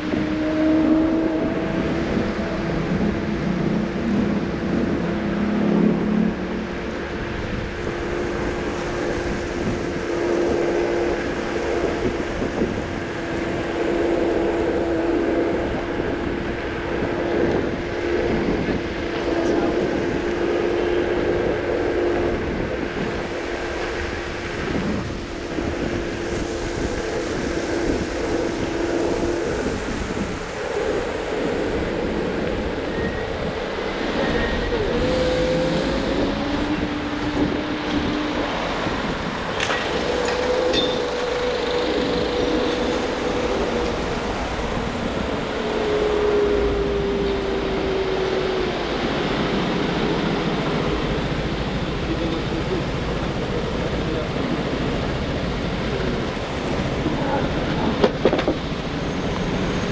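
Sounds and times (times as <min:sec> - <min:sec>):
electric scooter motor whine: 0:00.0 - 0:59.9
road rumble: 0:00.0 - 0:59.9
wind: 0:00.0 - 0:59.9.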